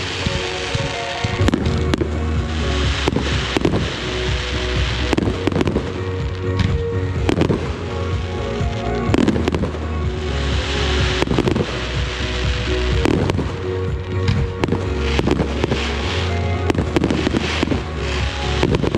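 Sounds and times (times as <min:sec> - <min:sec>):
fireworks bangs: 0:00.0 - 0:18.9
fireworks hiss and crackle: 0:00.0 - 0:18.9
music playing: 0:00.0 - 0:18.9.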